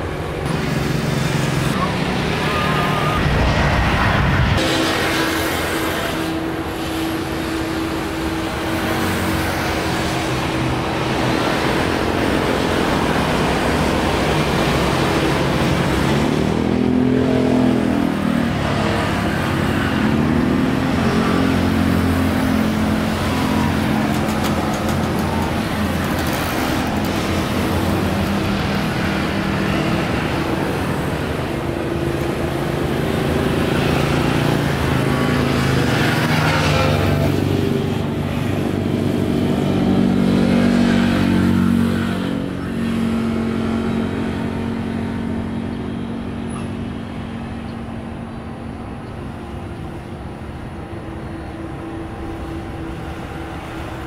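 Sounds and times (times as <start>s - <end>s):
jet engines rumble and whine: 0.0s - 54.0s.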